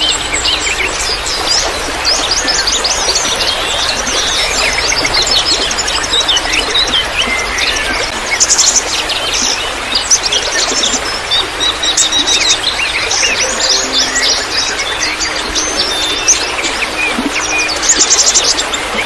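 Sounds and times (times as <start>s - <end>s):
birds chirping and trilling: 0.0s - 19.0s
trickling water: 0.0s - 19.0s.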